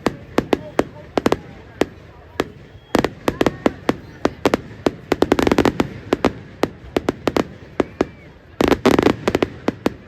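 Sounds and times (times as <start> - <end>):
fireworks cracking and banging: 0.0 - 10.0.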